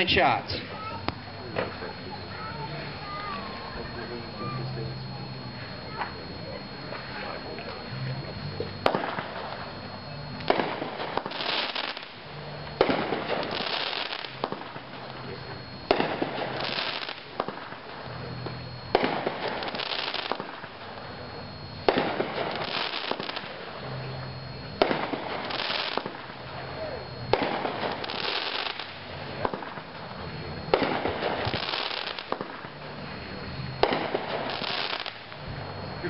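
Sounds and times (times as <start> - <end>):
crackling hiss: 0.0 - 36.0
firework shots: 0.0 - 36.0.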